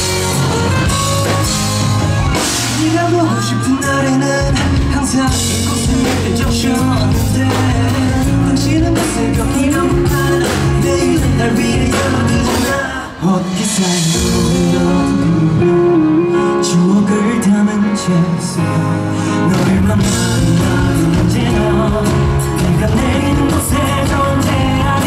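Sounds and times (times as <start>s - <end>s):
rock band playing live: 0.0s - 25.0s
person singing: 2.4s - 25.0s.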